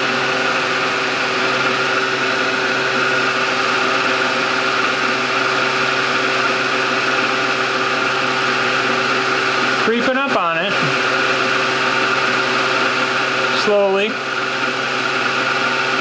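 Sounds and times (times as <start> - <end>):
milling machine spindle hum: 0.0 - 16.0.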